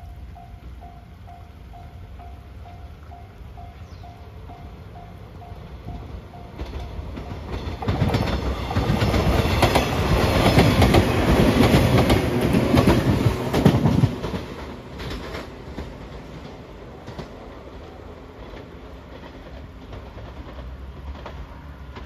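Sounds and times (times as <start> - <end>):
electric train wheels clacking: 0.0 - 22.0.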